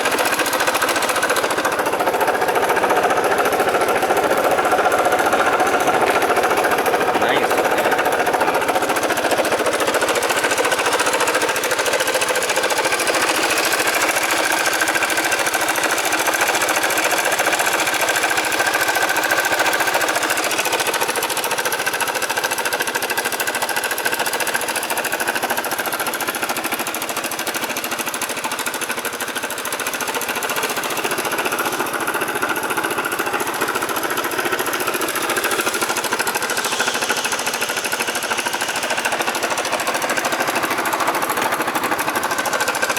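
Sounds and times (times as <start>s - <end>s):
scooter engine with mechanical clatter: 0.0s - 42.9s.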